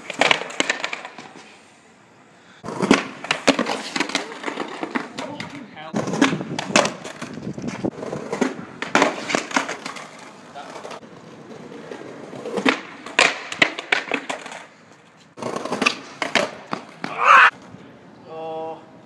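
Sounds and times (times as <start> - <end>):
skateboard clacking on stone: 0.0 - 1.5, 2.7 - 11.0, 11.8 - 17.6
skateboard wheels rolling: 0.0 - 18.2.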